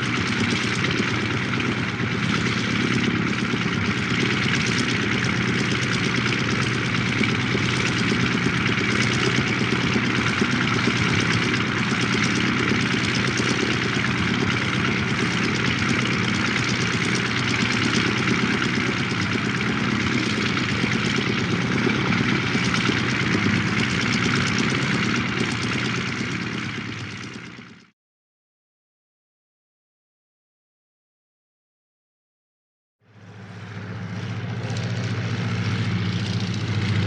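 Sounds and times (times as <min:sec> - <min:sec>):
propeller plane engine idling: 0:00.0 - 0:27.9, 0:33.0 - 0:37.0.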